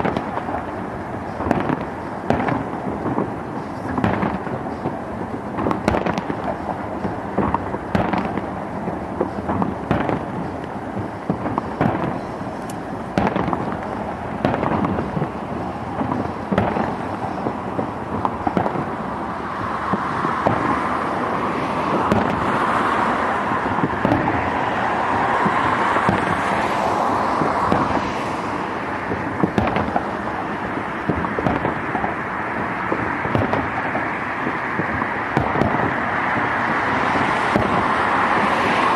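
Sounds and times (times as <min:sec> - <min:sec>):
fireworks bursting: 0:00.0 - 0:38.9
fireworks crackle: 0:00.0 - 0:38.9.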